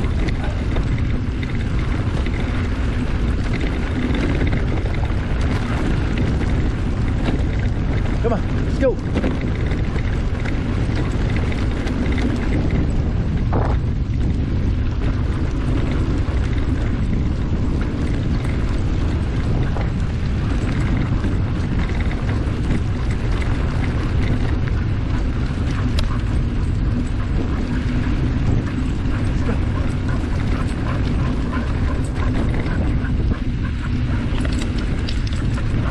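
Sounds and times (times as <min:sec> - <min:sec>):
wind noise on microphone: 0:00.0 - 0:35.9.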